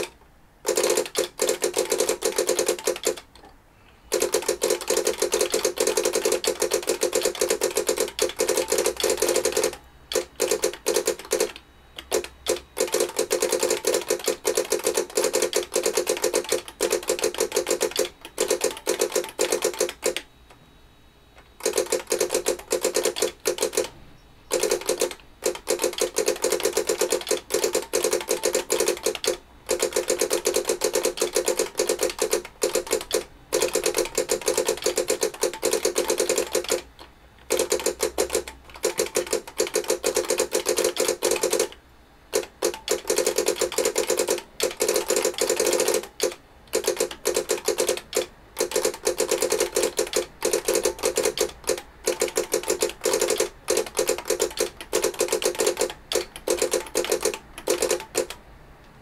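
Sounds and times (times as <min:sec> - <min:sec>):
fast typing on keyboard: 0:00.7 - 0:03.3, 0:04.1 - 0:20.3, 0:21.6 - 0:23.9, 0:24.5 - 0:41.8, 0:42.4 - 0:58.4.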